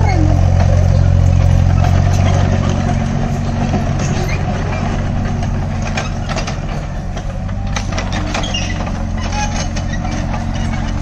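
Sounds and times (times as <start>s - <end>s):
excavator diesel engine running: 0.0s - 11.0s
short metal clanks and knocks: 1.8s - 11.0s.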